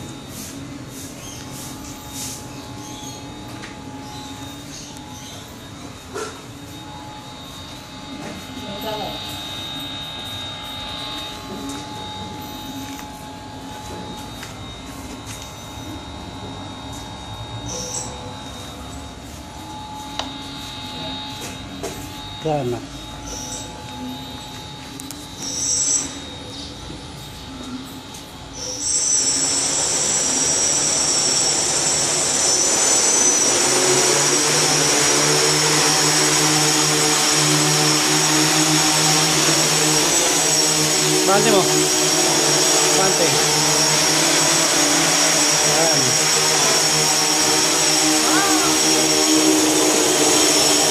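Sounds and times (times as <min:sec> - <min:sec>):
drone motors whirring: 0:00.0 - 0:50.9.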